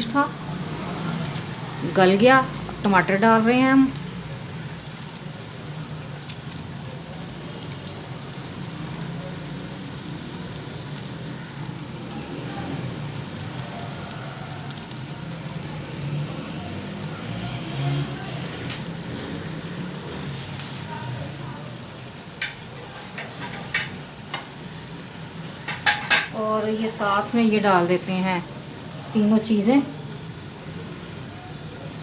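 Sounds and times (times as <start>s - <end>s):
curry simmering and sizzling: 0.0s - 32.0s.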